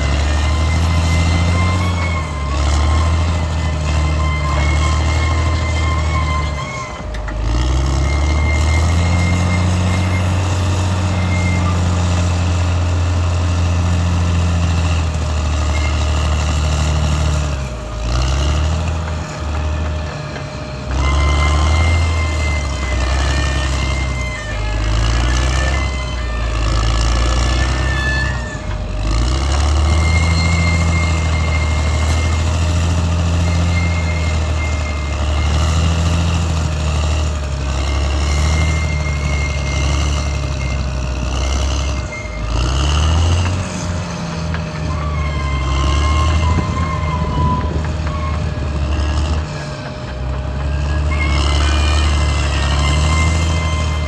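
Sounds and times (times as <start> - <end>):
bulldozer diesel engine running: 0.0 - 54.0
thin high squealing tones: 0.0 - 54.0.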